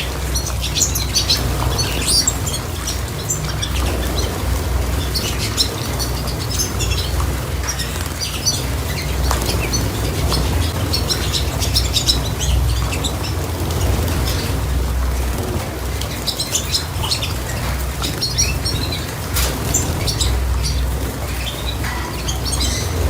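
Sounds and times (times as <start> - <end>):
cage birds chirping: 0.0 - 23.0
wing flutters: 0.0 - 23.0.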